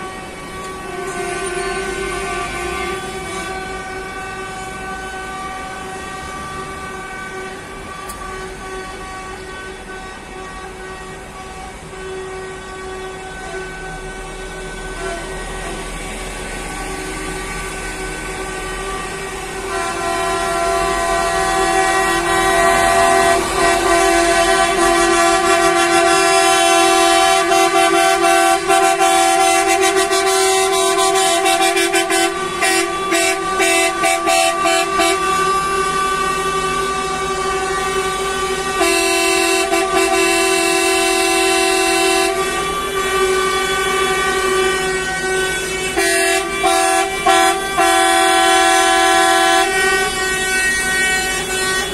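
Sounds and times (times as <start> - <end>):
coach air horns sounding: 0.0 - 51.9.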